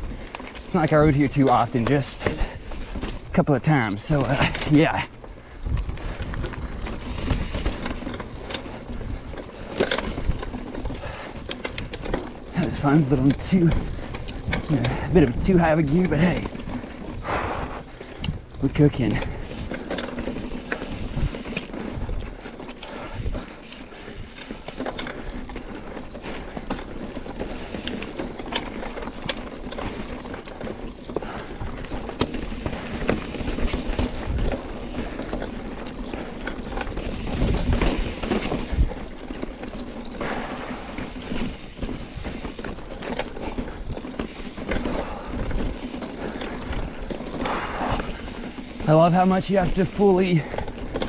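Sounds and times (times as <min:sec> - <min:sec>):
bike rattling on rough trail: 0:00.0 - 0:51.0.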